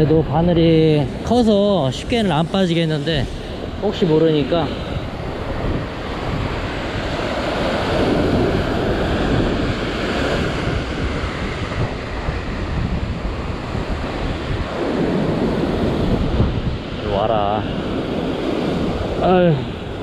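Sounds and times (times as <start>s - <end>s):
ocean surf breaking over rocks: 0.0s - 20.0s
wind buffeting microphone: 0.0s - 20.0s.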